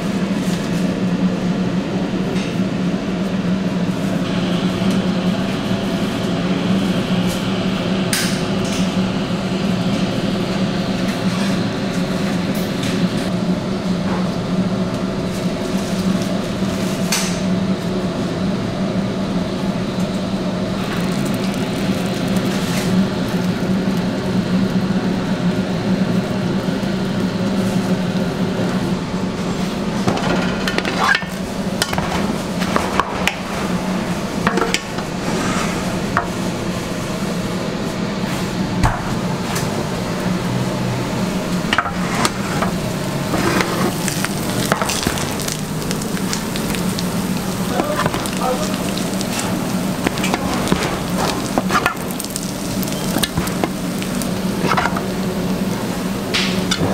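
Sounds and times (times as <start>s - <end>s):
machinery humming: 0.0s - 56.9s.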